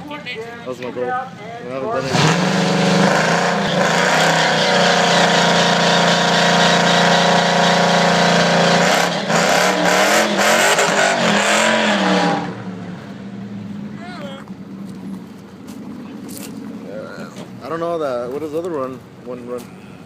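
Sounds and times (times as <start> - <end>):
car engine at full throttle: 1.7 - 19.6.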